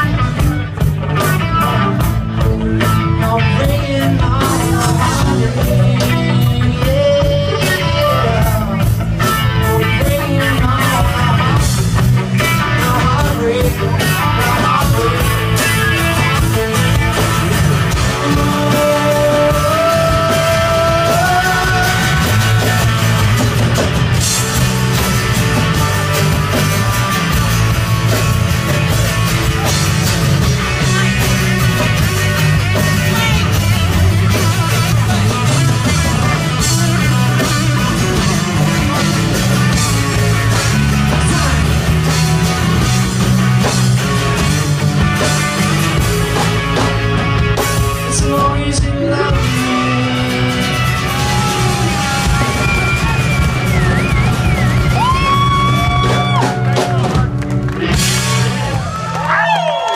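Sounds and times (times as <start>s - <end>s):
sliding guitar melody: 0.0s - 58.9s
live rock band playing: 0.0s - 59.9s.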